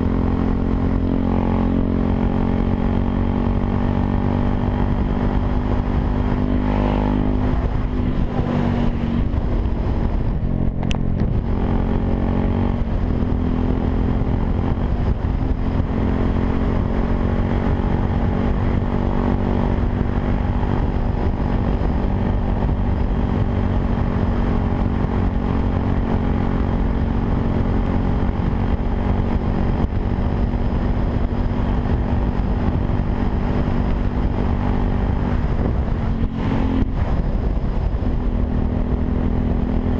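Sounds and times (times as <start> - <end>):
motorcycle engine revving: 0.0 - 39.9
wind rumble on microphone: 0.0 - 39.9.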